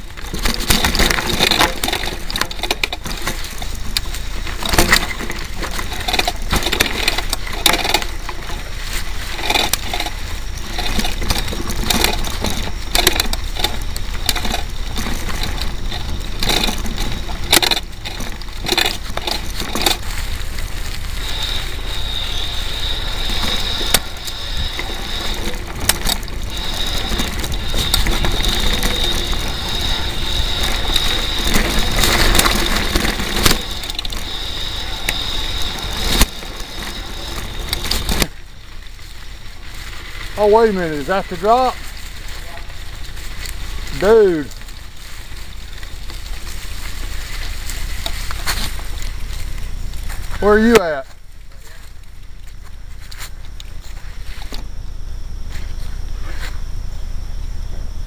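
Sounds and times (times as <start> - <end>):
bike rattling and clattering: 0.0 - 56.6
high-pitched whine: 0.0 - 58.0
steady low rumble: 0.0 - 58.0.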